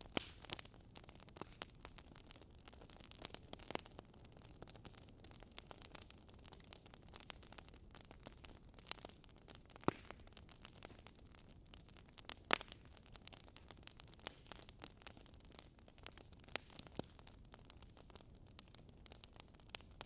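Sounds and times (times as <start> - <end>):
fire pops: 0.0 - 20.0
wood fire crackling: 0.0 - 20.0.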